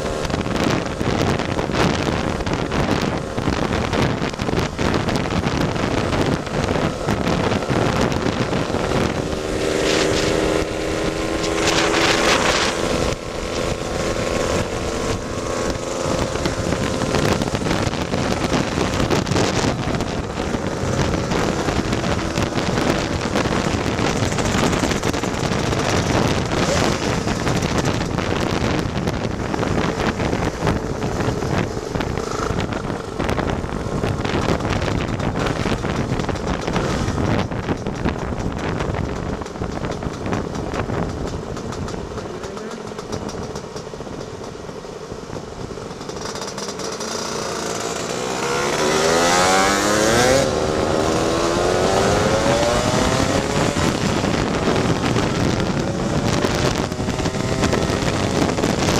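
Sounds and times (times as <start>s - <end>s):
scooter engine running: 0.0s - 58.9s
wind buffeting microphone: 0.0s - 58.9s.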